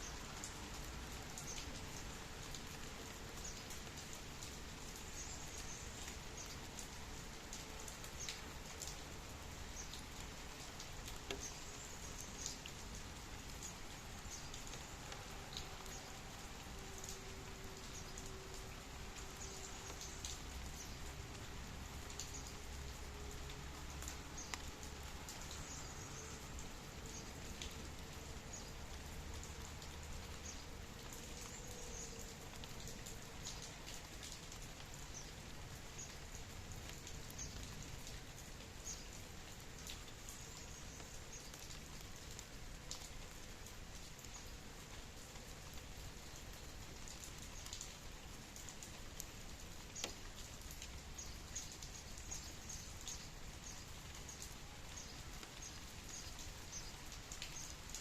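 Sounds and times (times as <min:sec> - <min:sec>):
nearby raindrop ticks: 0:00.0 - 0:58.0
steady rain falling: 0:00.0 - 0:58.0.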